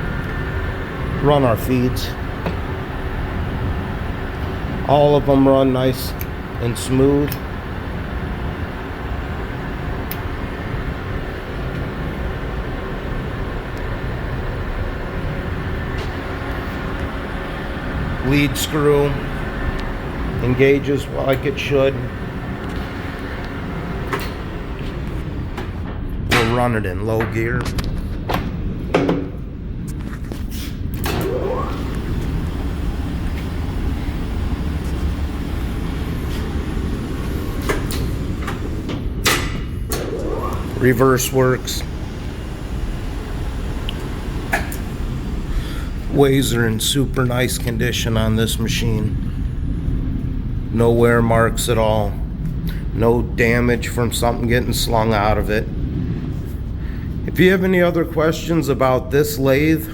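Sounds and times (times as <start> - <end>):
lathe running hum: 0.0 - 26.4, 30.2 - 57.6
rising whine: 0.0 - 59.9.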